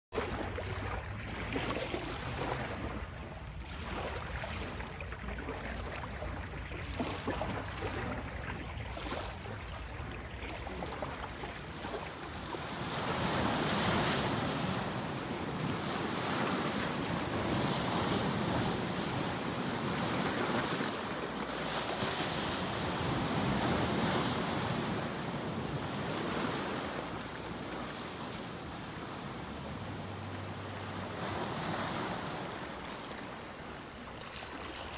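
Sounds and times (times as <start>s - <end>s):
wind: 0.1s - 34.9s
sea waves breaking on shore: 0.2s - 34.9s.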